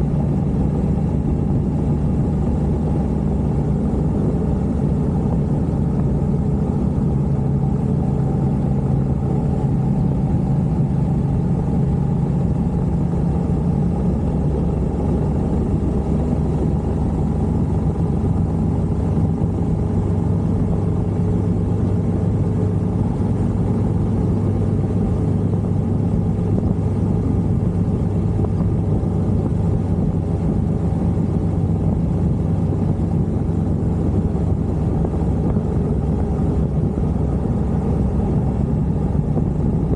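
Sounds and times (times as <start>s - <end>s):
road and wind rumble: 0.0s - 39.9s
vehicle engine running: 0.0s - 39.9s.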